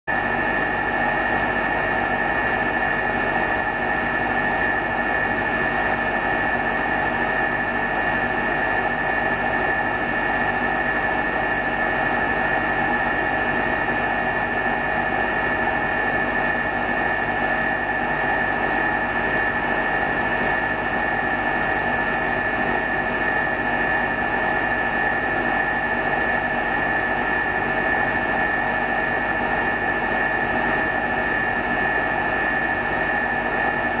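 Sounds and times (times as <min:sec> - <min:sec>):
machinery hum with high whine: 0:00.1 - 0:34.0.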